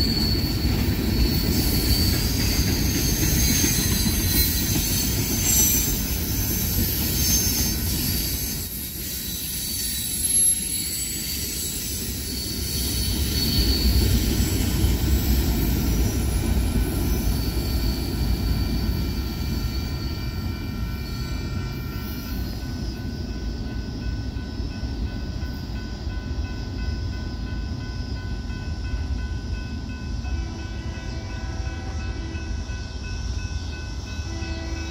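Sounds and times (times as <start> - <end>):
freight train rumbling on rails: 0.0 - 34.9
train wheel squeal: 0.0 - 34.9.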